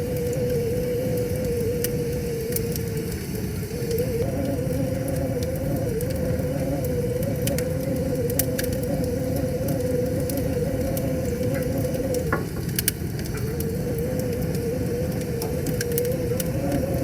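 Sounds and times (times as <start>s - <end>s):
wavering hum: 0.0s - 17.0s
wood fire crackling and popping: 0.0s - 17.0s.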